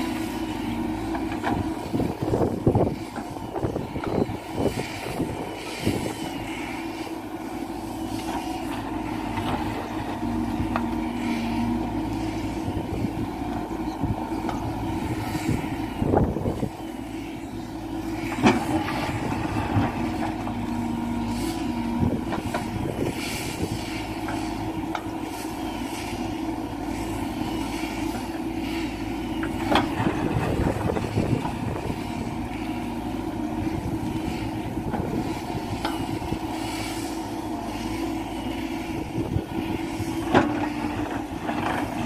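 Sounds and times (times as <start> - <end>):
diesel engine running under load: 0.0 - 42.0.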